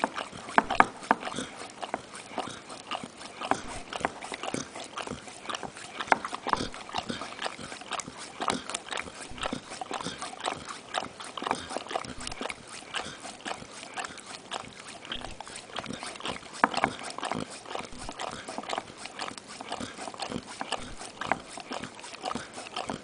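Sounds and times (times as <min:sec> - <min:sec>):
dog licking wet tongue smacks: 0:00.0 - 0:23.0.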